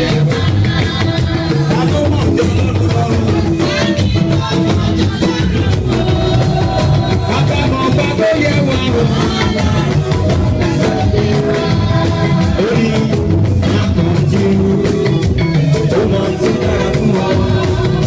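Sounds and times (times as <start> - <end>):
drum kit beat: 0.0 - 18.0
gospel band music: 0.0 - 18.0
guitar: 0.0 - 18.0.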